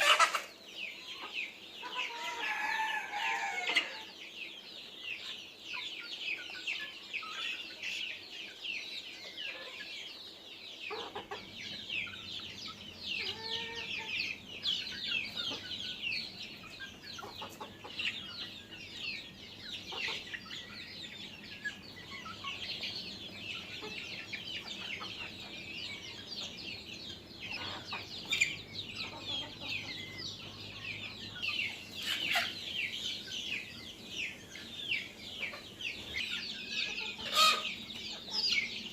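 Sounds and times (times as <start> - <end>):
chickens clucking: 0.0 - 38.9
chicks peeping: 0.0 - 38.9.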